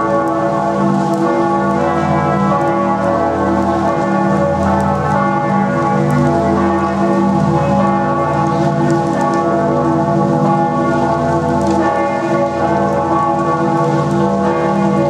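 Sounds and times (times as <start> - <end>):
church bells ringing in full peal: 0.0 - 15.0.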